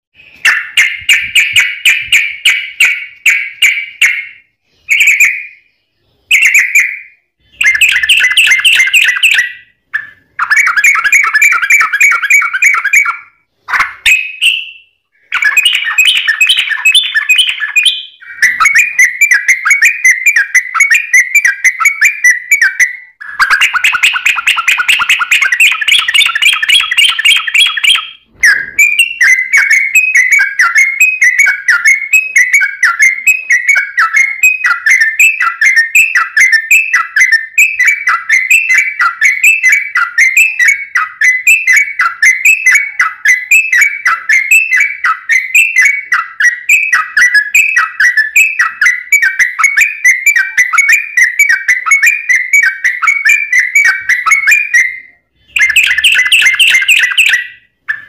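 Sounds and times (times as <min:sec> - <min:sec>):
bird singing whistled notes: 0:00.2 - 0:58.0.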